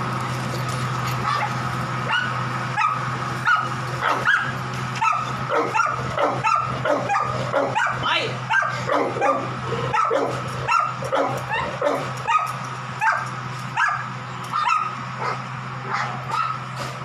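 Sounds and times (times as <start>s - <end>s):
dog barking and yipping: 1.2s - 16.7s.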